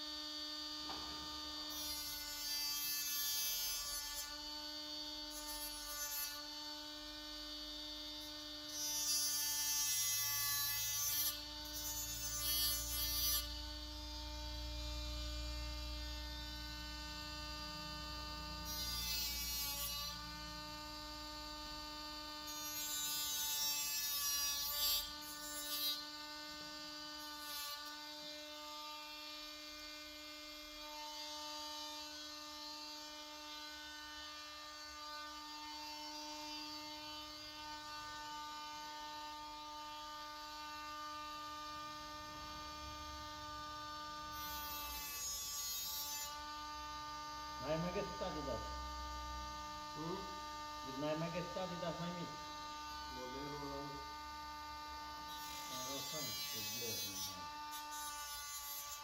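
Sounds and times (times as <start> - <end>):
angle grinder whining: 0.0 - 59.0.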